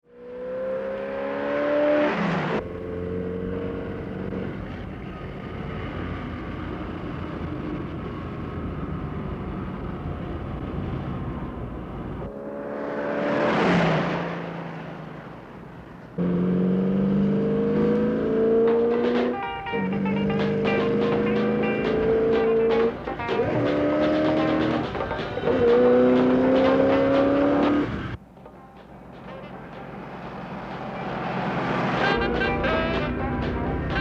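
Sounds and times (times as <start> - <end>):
engine and road noise: 0.0 - 34.0
car speeding past: 0.1 - 4.7, 8.6 - 28.2, 29.8 - 34.0.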